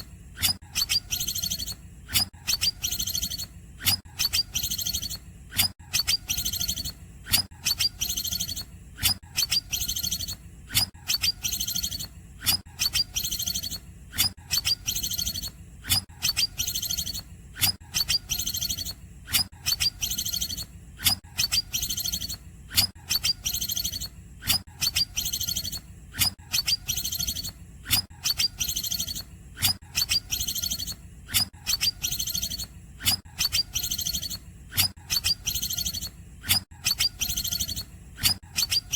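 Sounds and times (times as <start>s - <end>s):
bird song with clicks and trills: 0.0s - 38.9s.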